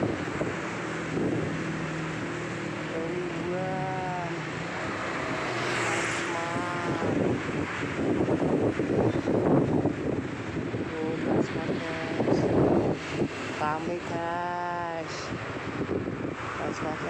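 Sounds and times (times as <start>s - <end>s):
street traffic engines: 0.0s - 17.0s
wind on microphone: 0.0s - 17.0s.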